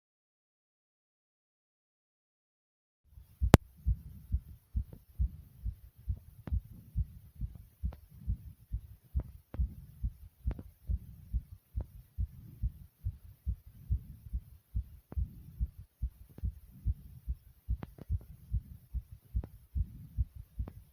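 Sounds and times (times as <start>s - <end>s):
fast heartbeat thumps: 3.2s - 20.9s.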